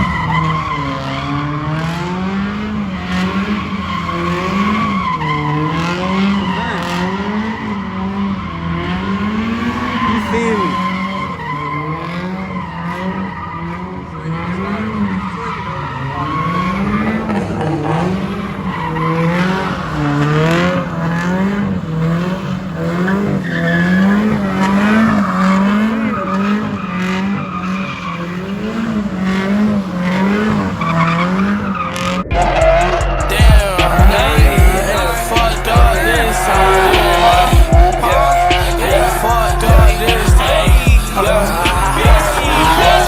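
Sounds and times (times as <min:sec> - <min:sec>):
car engine revving: 0:00.0 - 0:43.0
tyres squealing: 0:00.0 - 0:43.0.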